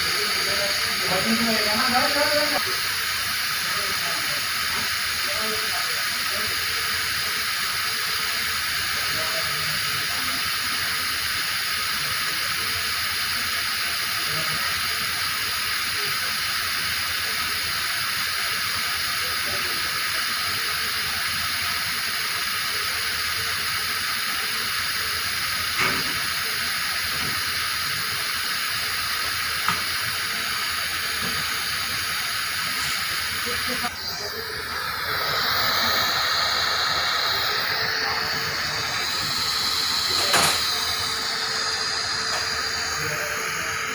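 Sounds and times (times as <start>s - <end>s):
compressed air hissing: 0.0s - 43.9s.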